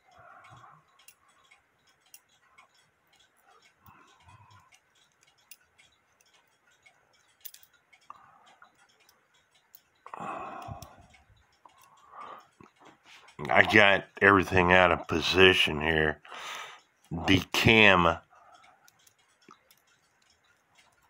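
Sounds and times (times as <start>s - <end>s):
clock mechanism metallic clicks: 0.0s - 21.0s.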